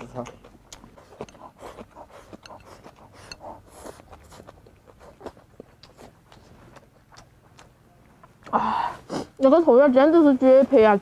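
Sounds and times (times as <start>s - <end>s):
chewing with full mouth: 0.0s - 9.4s.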